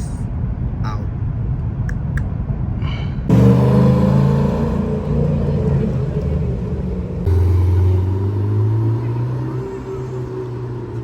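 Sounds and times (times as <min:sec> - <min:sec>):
large engine droning: 0:00.0 - 0:11.0.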